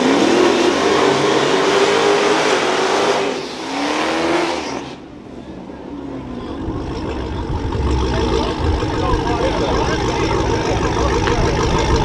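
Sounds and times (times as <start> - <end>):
car accelerating at full throttle: 0.0 - 12.0.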